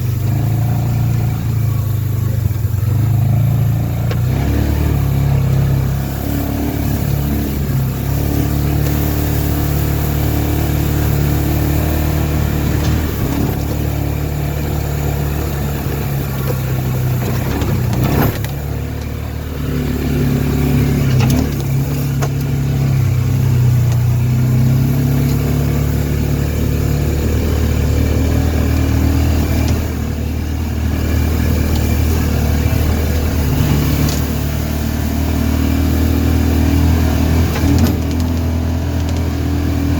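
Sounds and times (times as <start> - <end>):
utility vehicle engine running: 0.0 - 39.9.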